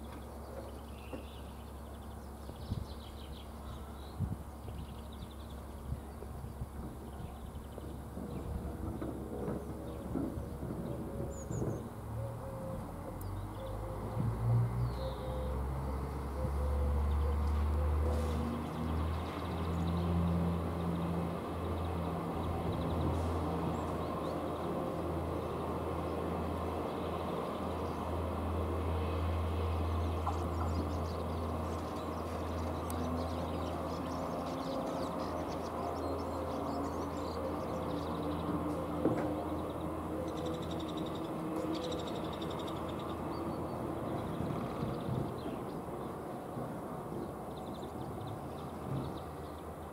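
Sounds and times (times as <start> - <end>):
low engine hum: 0.0 - 49.9.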